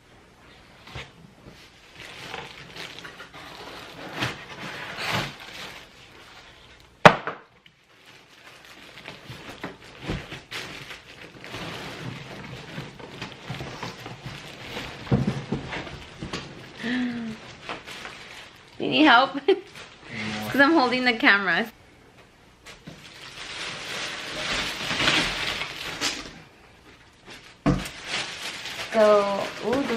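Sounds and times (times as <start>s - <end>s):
cardboard and wrapping rustling: 0.6s - 7.0s, 7.7s - 21.4s, 22.6s - 29.9s.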